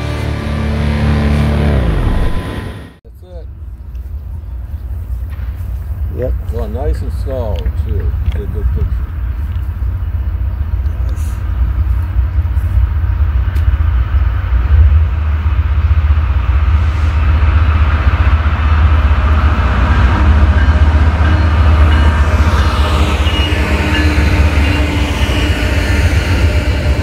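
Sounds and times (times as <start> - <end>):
diesel locomotive engine rumble: 0.0 - 27.0
freight train noise: 0.0 - 27.0.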